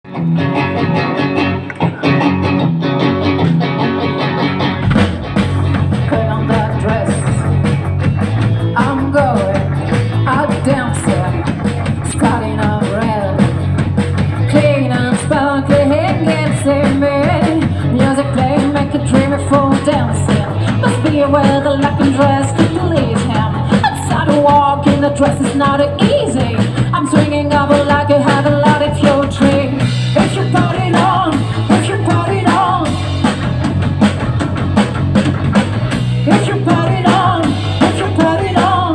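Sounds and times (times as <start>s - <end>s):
bass: 0.0s - 38.9s
drums: 0.0s - 38.9s
electric guitar: 0.0s - 38.9s.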